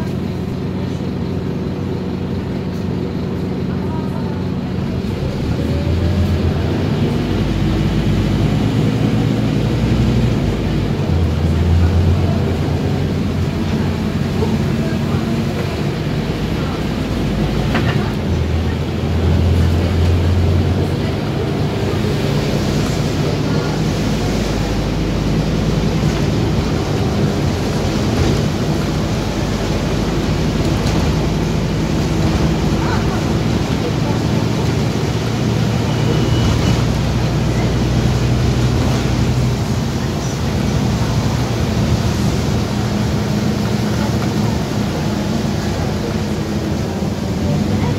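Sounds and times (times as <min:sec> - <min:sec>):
bus diesel engine drone: 0:00.0 - 0:47.9
road rumble: 0:00.0 - 0:47.9.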